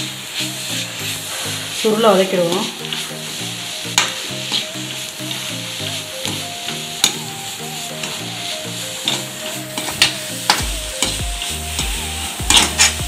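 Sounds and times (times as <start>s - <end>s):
greens sizzling in a wok: 0.0s - 13.0s.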